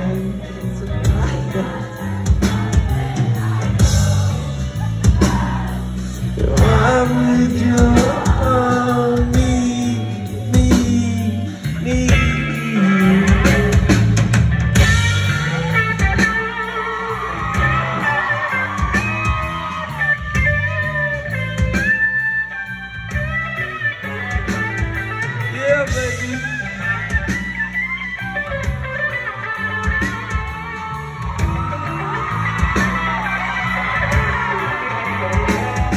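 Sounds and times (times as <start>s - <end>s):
bass guitar: 0.0s - 35.9s
drums: 0.0s - 35.9s
electric guitar lead: 0.0s - 35.9s.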